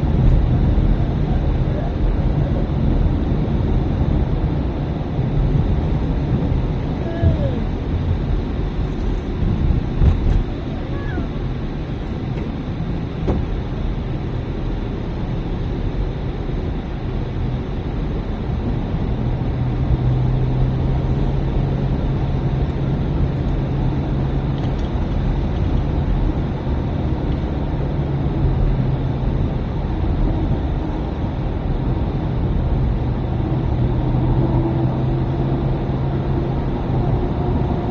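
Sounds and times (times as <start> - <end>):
car engine running: 0.0 - 37.9
road and tyre noise: 0.0 - 37.9.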